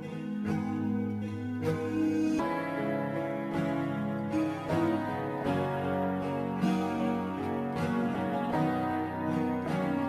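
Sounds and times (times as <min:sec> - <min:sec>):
soft instrumental background music: 0:00.0 - 0:10.0.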